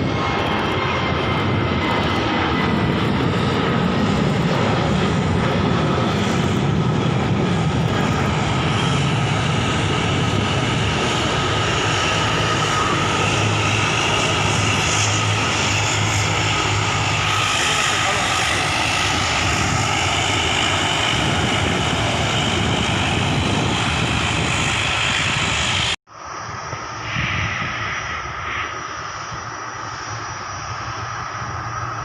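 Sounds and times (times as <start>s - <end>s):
airliner engines rumbling: 0.0s - 32.0s
engine whine: 0.0s - 32.0s.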